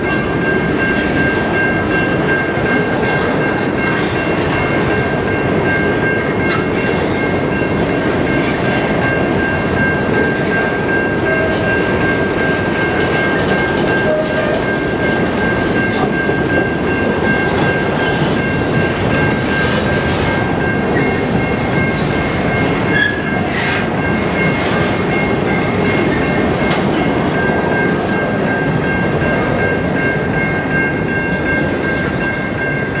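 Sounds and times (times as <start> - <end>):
high-pitched ringing tone: 0.0 - 33.0
train wheels rumbling on rail: 0.0 - 33.0.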